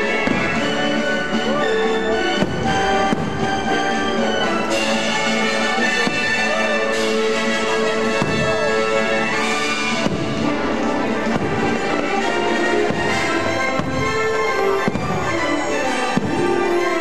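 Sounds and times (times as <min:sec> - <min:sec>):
fireworks bursting: 0:00.0 - 0:17.0
orchestral music: 0:00.0 - 0:17.0.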